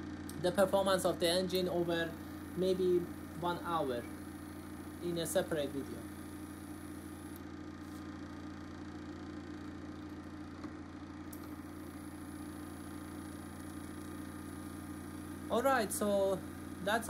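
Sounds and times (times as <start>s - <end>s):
engine low hum: 0.0s - 17.0s.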